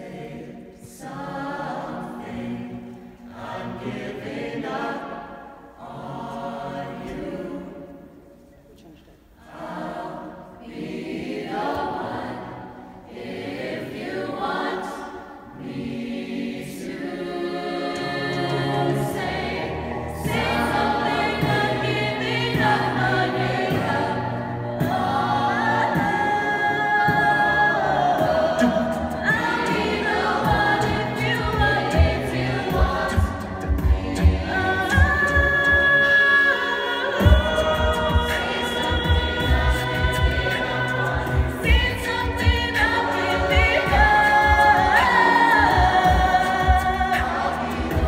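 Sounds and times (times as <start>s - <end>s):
vocal ensemble singing in harmony: 0.0s - 48.0s.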